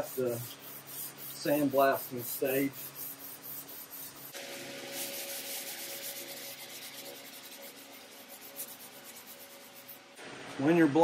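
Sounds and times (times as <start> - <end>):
sandpaper rubbing on metal panel: 0.0 - 10.0.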